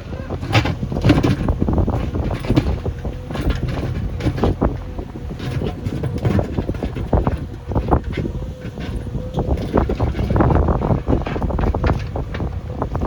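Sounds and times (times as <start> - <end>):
clunks and knocks: 0.0 - 13.0
diesel engine running: 0.0 - 13.0
wind buffeting microphone: 0.0 - 13.0.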